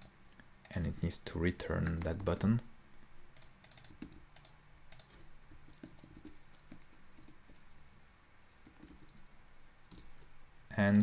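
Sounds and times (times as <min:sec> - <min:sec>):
faint keyboard typing: 0:00.0 - 0:02.7, 0:03.3 - 0:07.9, 0:08.5 - 0:11.0.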